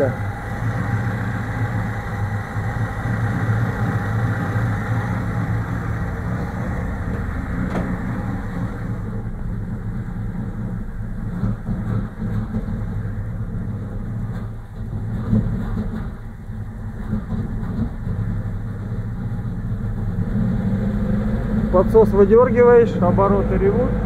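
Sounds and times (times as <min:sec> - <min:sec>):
car engine idling roughly: 0:00.0 - 0:24.0.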